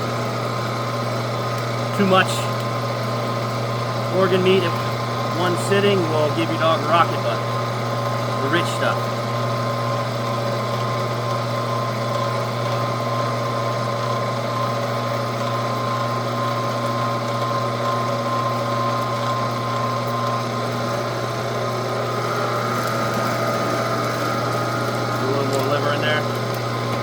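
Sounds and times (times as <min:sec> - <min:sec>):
meat grinder motor humming: 0:00.0 - 0:27.0.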